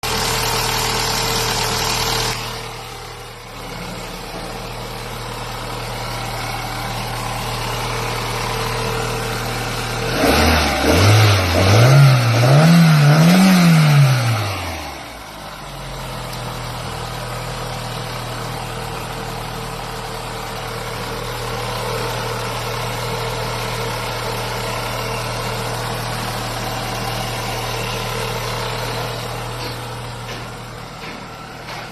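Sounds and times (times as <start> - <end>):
car engine idling and revving: 0.0 - 31.9.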